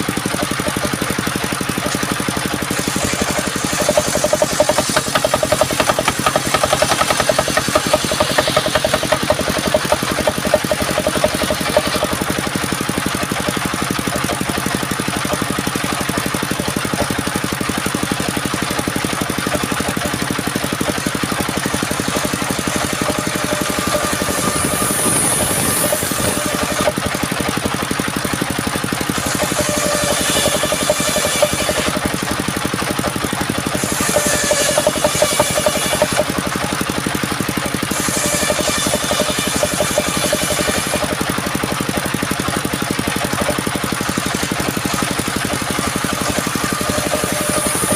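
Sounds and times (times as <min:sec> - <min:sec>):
wood-sawing machine running: 0:00.0 - 0:47.9.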